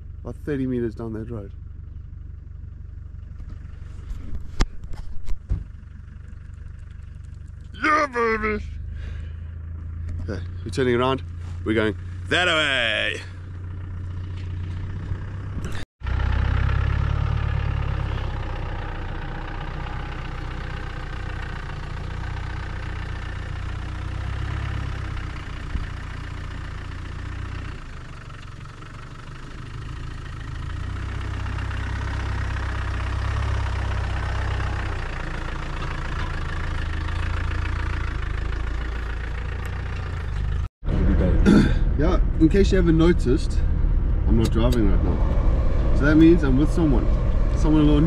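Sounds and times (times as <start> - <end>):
engine drone: 0.0 - 48.0
tyre and road noise: 0.0 - 48.0.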